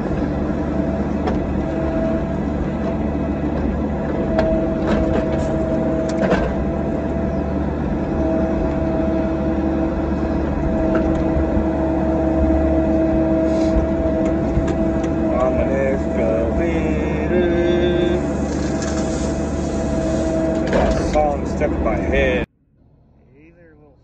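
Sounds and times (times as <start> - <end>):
hydraulic whine: 0.0 - 23.6
excavator engine and hydraulics: 0.0 - 24.0.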